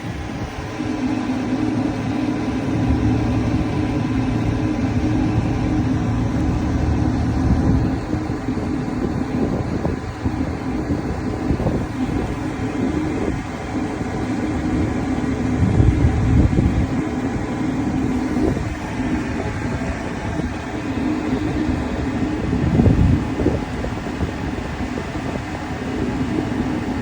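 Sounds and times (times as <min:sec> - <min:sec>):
heavy low rumbles: 0:00.0 - 0:27.0
large engine humming: 0:00.0 - 0:27.0.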